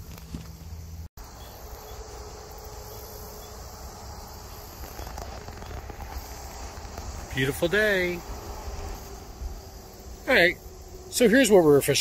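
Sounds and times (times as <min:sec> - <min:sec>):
crickets and insects chirping: 0:00.0 - 0:12.0.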